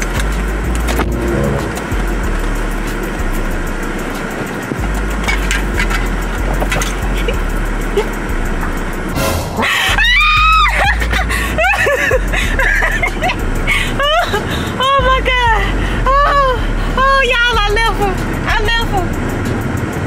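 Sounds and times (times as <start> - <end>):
car cabin rumble and hiss: 0.0 - 20.0.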